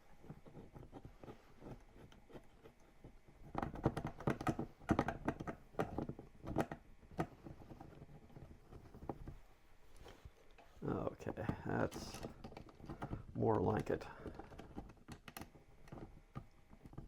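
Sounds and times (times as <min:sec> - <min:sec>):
plastic parts clicking and knocking: 0:00.2 - 0:09.4, 0:11.3 - 0:17.0.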